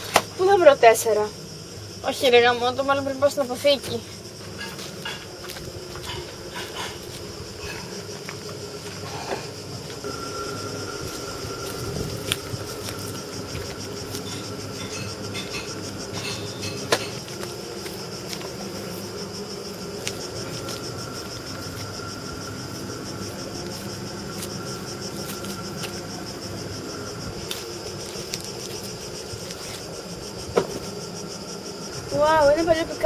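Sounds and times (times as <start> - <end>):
insects shrilling: 0.0 - 33.0.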